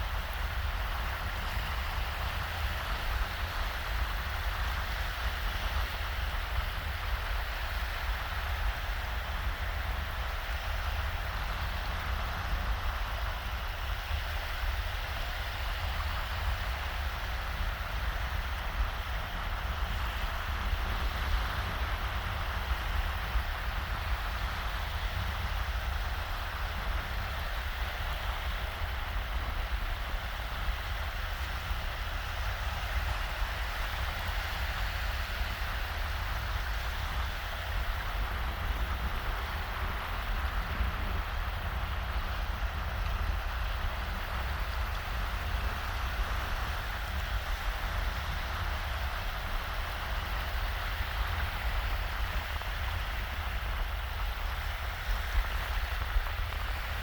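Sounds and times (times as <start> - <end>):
small waves washing on sand: 0.0 - 57.0
wind rumble on microphone: 0.0 - 57.0.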